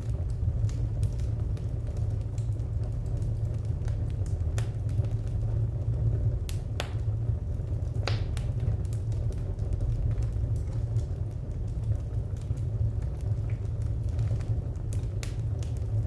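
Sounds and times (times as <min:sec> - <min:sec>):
fire popping and snapping: 0:00.0 - 0:16.0
wood fire crackling: 0:00.0 - 0:16.0.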